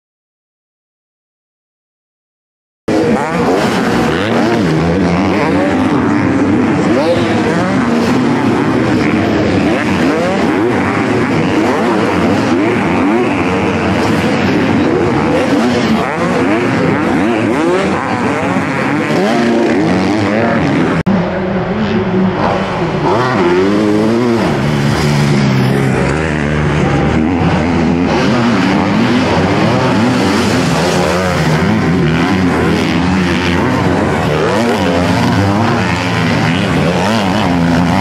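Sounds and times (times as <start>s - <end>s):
motocross bikes revving past: 2.9s - 38.0s.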